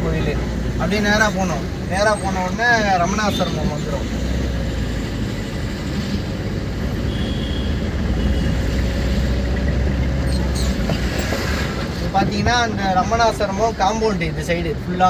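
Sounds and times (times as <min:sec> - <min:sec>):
traffic noise: 0:00.0 - 0:15.0
vehicle engine and road rumble: 0:00.0 - 0:15.0.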